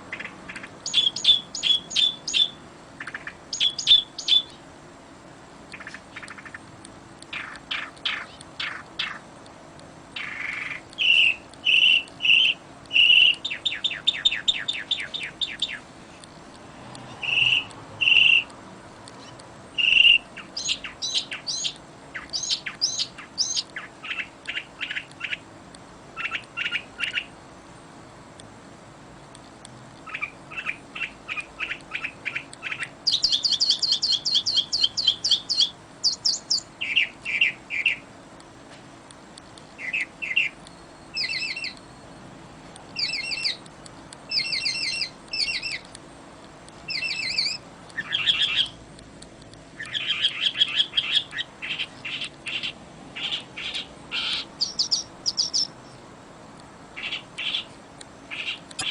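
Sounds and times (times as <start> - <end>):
songbirds singing: 0.0 - 28.4, 29.2 - 58.9.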